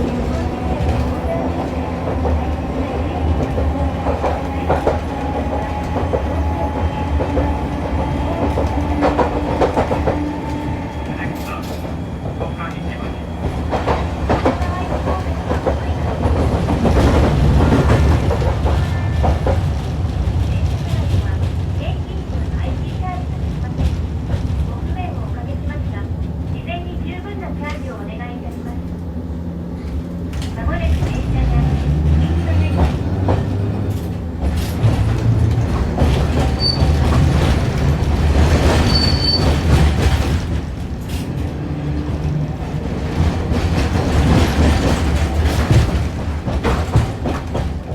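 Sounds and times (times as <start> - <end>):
tram motors and wheels rumbling: 0.0 - 47.9.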